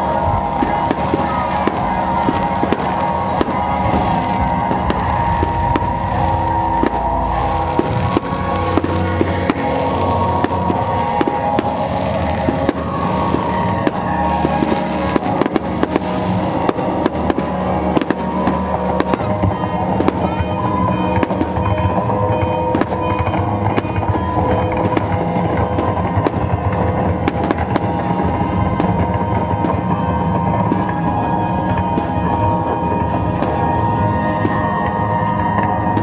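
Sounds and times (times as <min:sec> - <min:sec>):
fireworks bangs and crackles: 0:00.0 - 0:36.0
music: 0:00.0 - 0:36.0.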